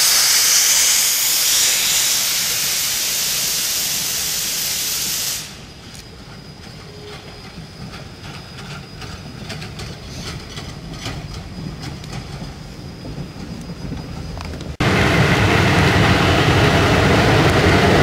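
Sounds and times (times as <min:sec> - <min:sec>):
train wheels clicking over rail joints: 0:00.0 - 0:14.8
low train rumble: 0:00.0 - 0:18.0.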